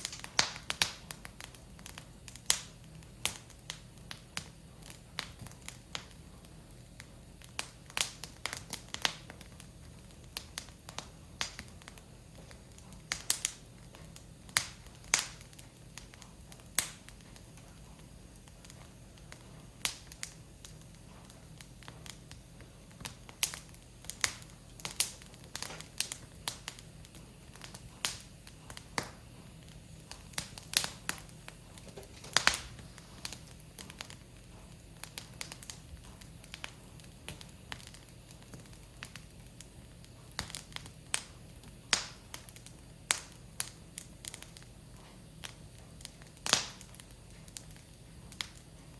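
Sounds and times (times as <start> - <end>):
firewood crackling and popping: 0.0 - 48.9.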